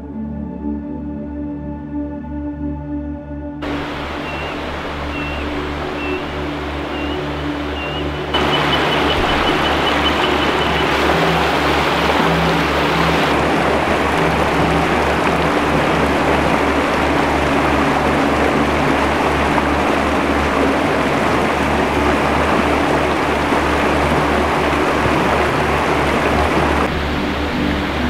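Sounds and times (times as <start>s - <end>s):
background music with low pulse: 0.0s - 24.7s
water rushing over rapids: 3.6s - 28.0s.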